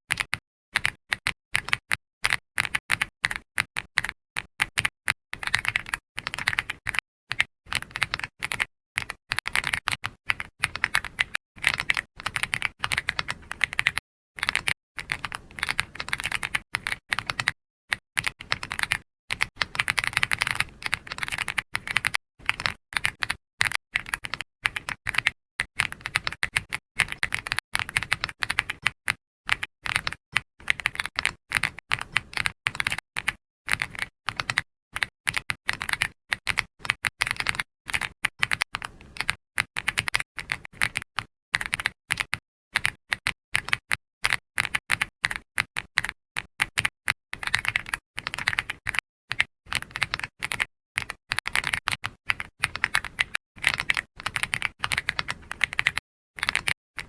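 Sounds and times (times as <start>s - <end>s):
typing on computer keyboard: 0.1s - 57.0s.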